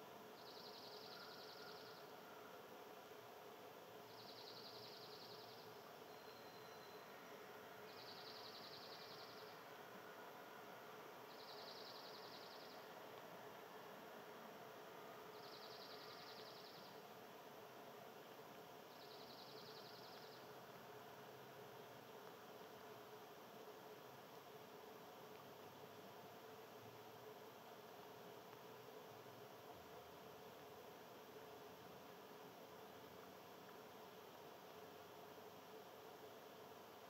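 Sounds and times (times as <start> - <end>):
steady low hiss: 0.0 - 37.0.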